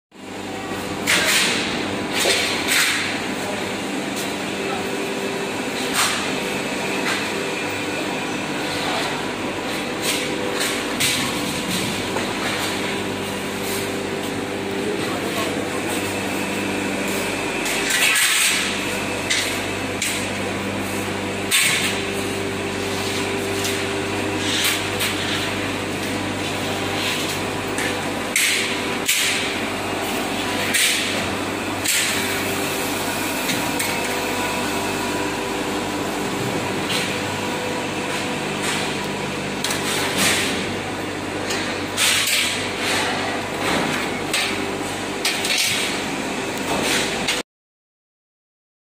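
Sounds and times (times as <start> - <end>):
low machine hum: 0.2 - 47.4.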